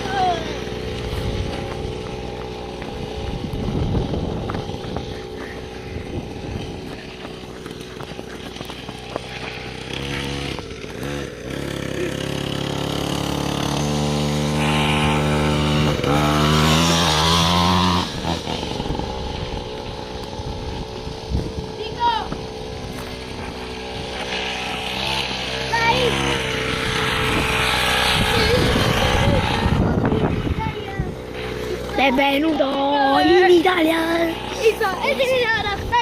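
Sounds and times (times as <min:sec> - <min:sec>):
motocross engine revving: 0:00.0 - 0:36.0.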